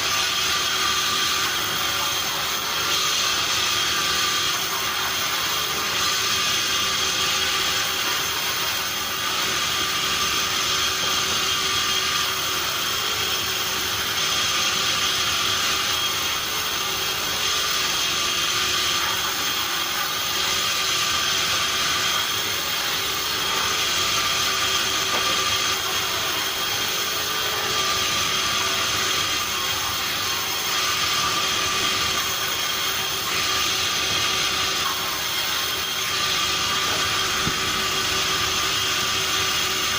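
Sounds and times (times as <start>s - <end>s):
saw whining through wood: 0.0s - 39.9s.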